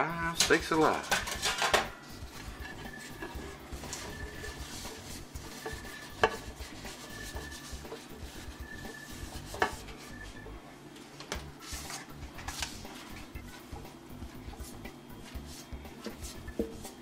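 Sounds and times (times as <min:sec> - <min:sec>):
paper towel scraping basket: 0:02.1 - 0:10.4, 0:11.5 - 0:17.0.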